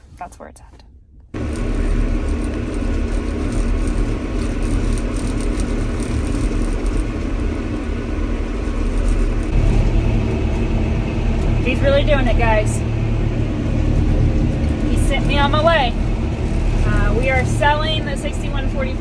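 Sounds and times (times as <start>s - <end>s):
tractor engine rumbling: 1.4s - 19.0s.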